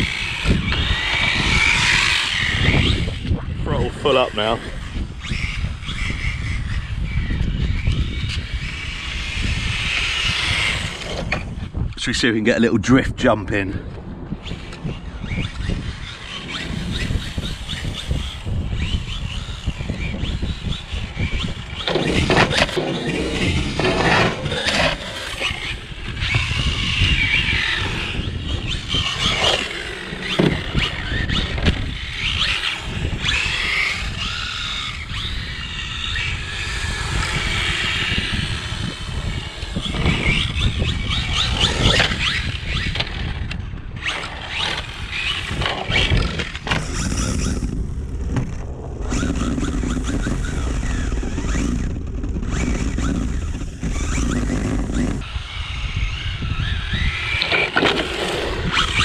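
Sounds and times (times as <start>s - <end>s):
rc car electric motor whining: 0.0s - 12.0s, 14.2s - 59.0s
wind on microphone: 0.0s - 59.0s.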